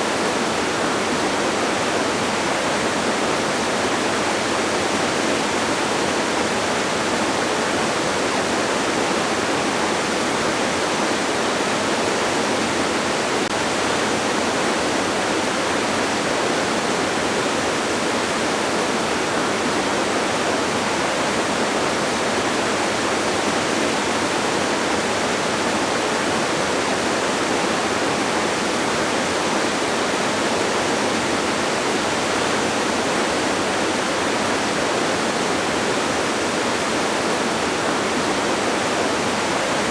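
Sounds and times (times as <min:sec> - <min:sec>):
distant waterfall rushing: 0:00.0 - 0:39.9.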